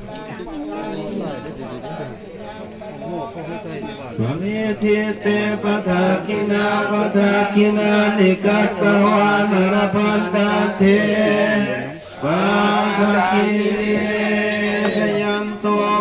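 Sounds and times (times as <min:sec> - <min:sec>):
monks chanting in monotone: 0:00.0 - 0:16.0.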